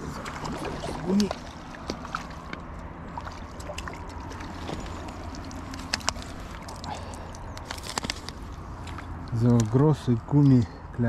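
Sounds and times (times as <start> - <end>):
water sloshing and splashing: 0.0 - 10.6.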